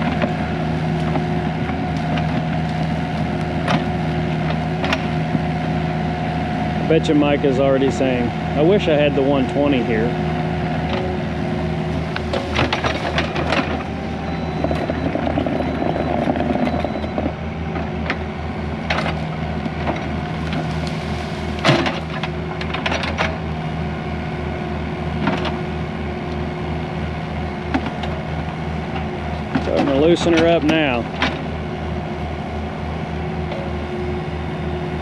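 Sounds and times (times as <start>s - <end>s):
skid steer engine running: 0.0s - 35.0s.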